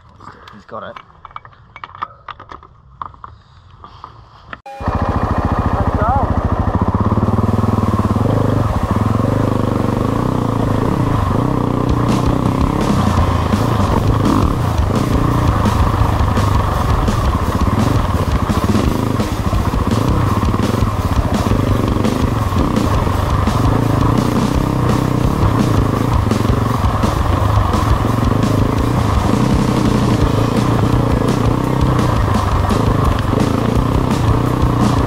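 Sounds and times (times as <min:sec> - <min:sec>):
dirt bike engines revving: 0:04.9 - 0:35.0.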